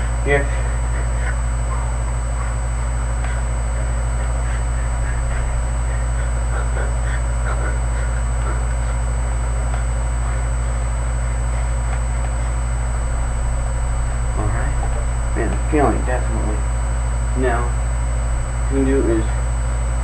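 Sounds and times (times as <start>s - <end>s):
low electrical hum: 0.0s - 20.0s
thin high whine: 0.0s - 20.0s.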